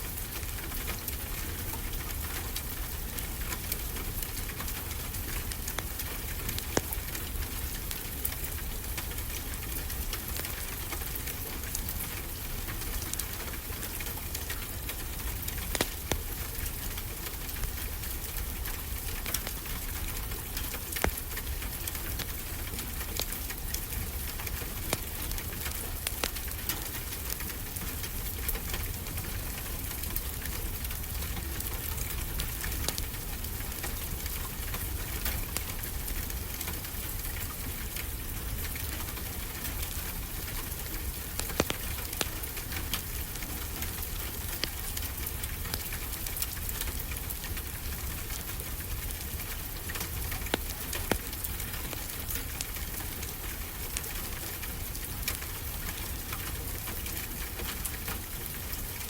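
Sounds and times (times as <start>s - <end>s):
steady rain: 0.0s - 59.0s
fireplace crackling: 0.2s - 59.0s.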